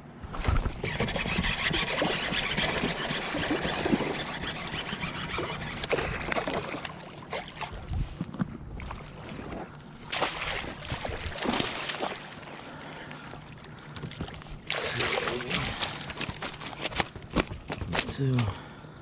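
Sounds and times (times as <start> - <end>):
water splashing and sloshing: 0.3 - 18.4.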